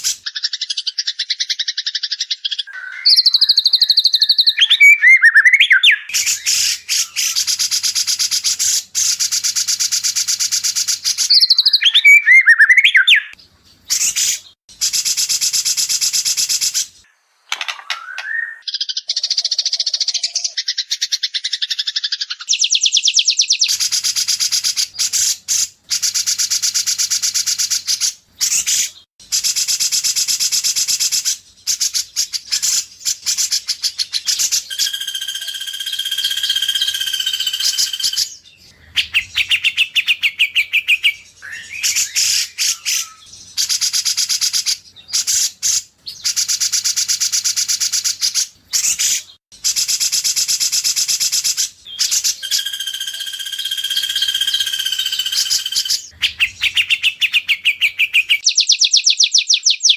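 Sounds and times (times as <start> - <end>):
bird song with rapid high notes: 0.0 - 59.9
clear held bird whistle: 2.5 - 17.0, 17.8 - 20.8, 21.5 - 59.9.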